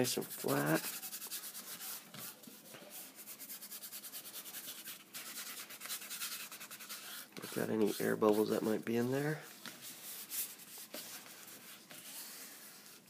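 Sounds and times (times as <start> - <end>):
palms rubbing paper: 0.0 - 13.0.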